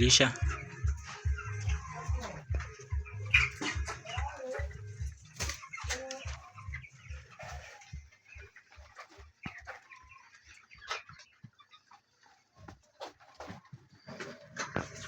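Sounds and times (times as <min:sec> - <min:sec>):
chicks peeping and chirping: 0:00.0 - 0:15.0.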